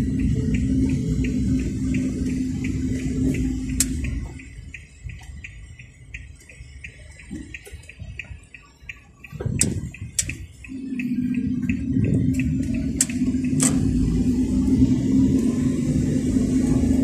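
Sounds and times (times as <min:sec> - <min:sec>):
turn signal ticking: 0:00.0 - 0:17.0.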